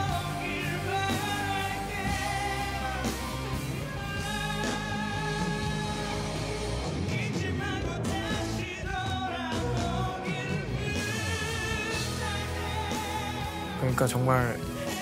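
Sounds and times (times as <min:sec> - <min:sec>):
man singing a slow ballad: 0:00.0 - 0:06.2, 0:07.0 - 0:13.9
band accompaniment: 0:00.0 - 0:15.0.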